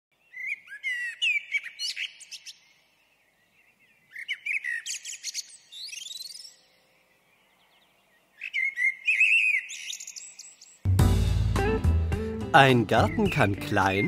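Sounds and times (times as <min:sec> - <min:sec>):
songbird chirping and trilling: 0:00.1 - 0:10.9, 0:12.6 - 0:14.0.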